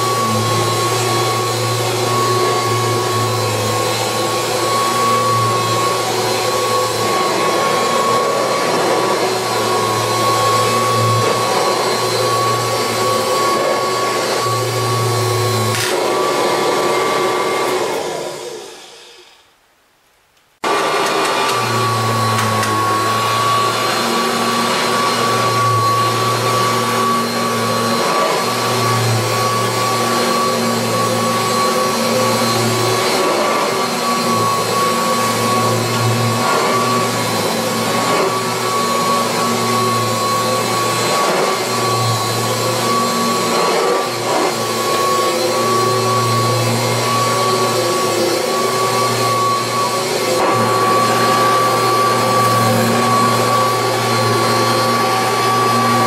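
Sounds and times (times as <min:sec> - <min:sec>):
vacuum cleaner whining: 0:00.0 - 0:19.6, 0:20.6 - 0:56.0.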